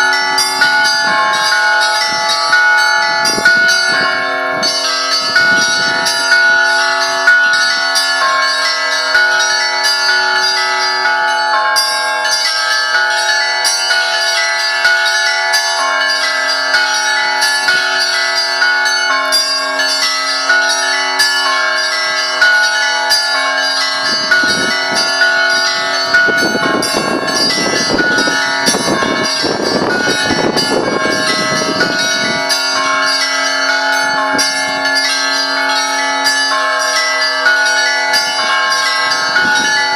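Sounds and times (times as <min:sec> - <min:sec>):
deep bells ringing: 0:00.0 - 0:39.9
small high bells struck rapidly: 0:00.0 - 0:39.9.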